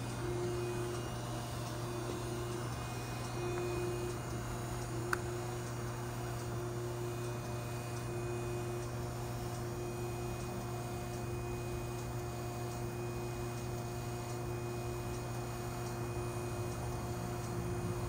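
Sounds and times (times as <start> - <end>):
constant machine tones: 0.0 - 18.0
grinder machine hum: 0.0 - 18.0.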